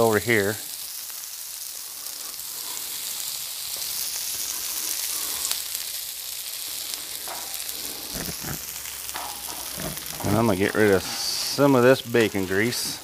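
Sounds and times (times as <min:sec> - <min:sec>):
sprouts sizzling on griddle: 0:00.0 - 0:13.0.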